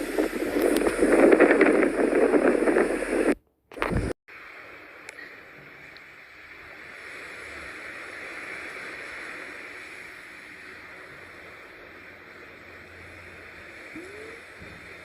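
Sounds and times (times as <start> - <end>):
blizzard wind rushing: 0.0 - 5.0, 5.8 - 15.0.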